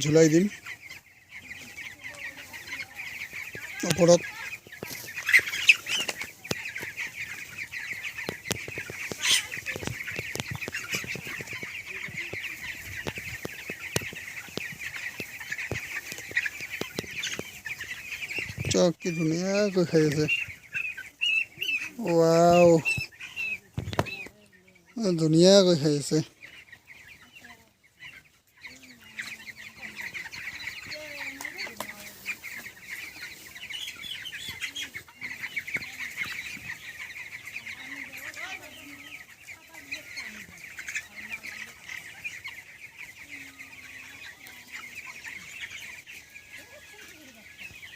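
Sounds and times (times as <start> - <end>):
beaks pecking at feed: 0.0 - 47.9
chicks peeping: 0.0 - 47.9.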